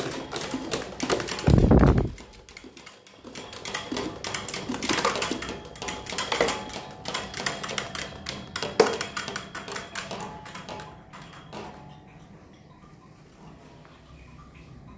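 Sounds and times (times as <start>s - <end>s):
electric fan rig clattering: 0.0s - 14.9s.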